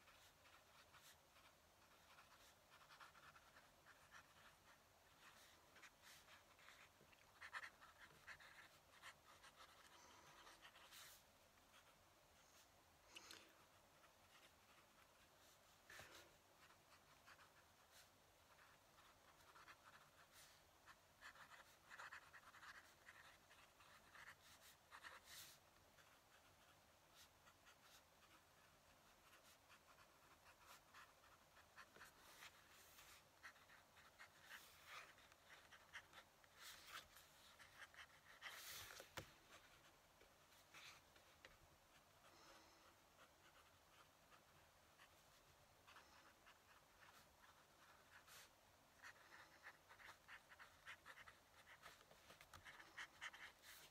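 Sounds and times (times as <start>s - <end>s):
pen nib scratching paper: 0.0s - 12.0s, 12.6s - 53.9s.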